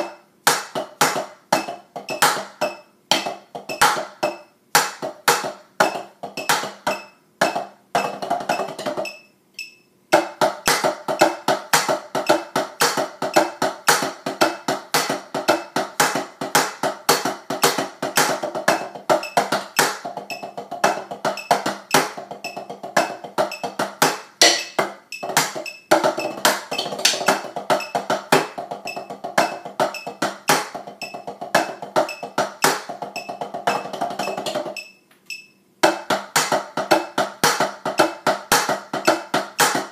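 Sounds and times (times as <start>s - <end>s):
drumsticks tapping practice pads: 0.0s - 39.9s.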